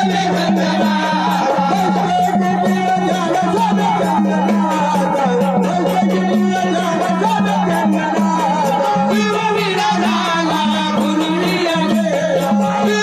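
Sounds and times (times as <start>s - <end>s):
accompanying instruments: 0.0s - 13.0s
hand drum rhythm: 0.0s - 13.0s
man singing devotional folk song: 0.0s - 13.0s.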